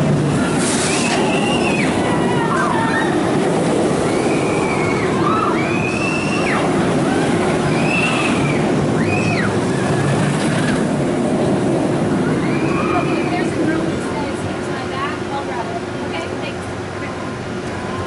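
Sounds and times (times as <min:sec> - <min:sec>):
roller coaster rumbling on track: 0:00.0 - 0:18.0.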